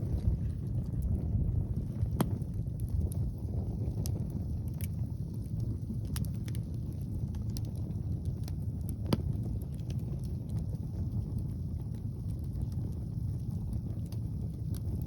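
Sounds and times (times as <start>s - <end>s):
fire popping: 0.0s - 15.0s
wind on microphone: 0.0s - 15.0s
wood fire crackling: 0.0s - 15.0s.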